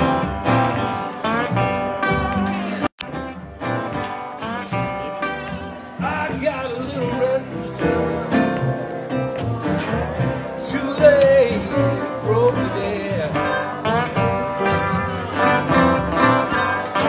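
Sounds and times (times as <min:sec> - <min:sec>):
blues band playing: 0:00.0 - 0:17.0
slide guitar lead: 0:00.0 - 0:17.0.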